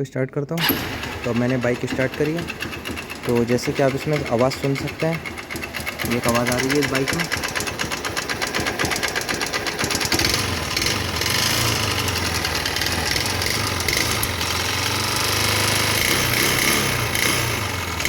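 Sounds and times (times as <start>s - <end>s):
motorcycle engine clattering: 0.6s - 18.0s.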